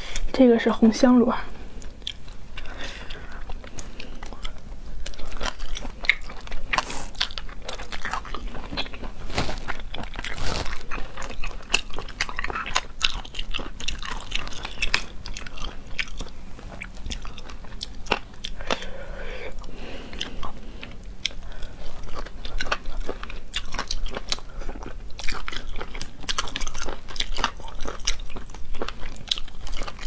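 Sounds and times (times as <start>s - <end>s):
chewing and biting: 1.8s - 18.9s, 19.6s - 30.0s.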